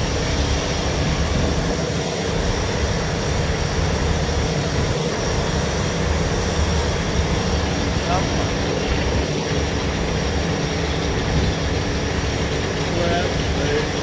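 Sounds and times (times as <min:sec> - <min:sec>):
machinery droning: 0:00.0 - 0:14.0.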